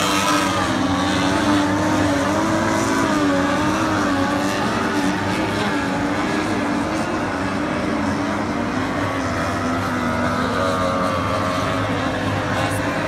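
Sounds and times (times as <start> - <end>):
racing outboard engines whining: 0.0 - 13.0.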